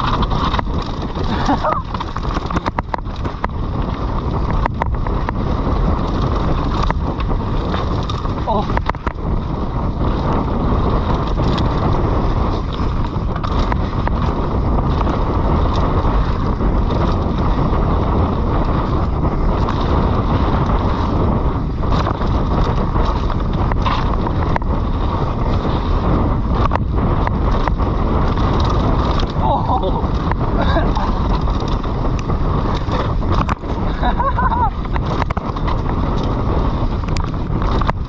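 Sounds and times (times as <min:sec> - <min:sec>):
bike knocks and rattles: 0:00.0 - 0:38.0
tyres rushing on wet dirt: 0:00.0 - 0:38.0
wind buffeting microphone: 0:00.0 - 0:38.0.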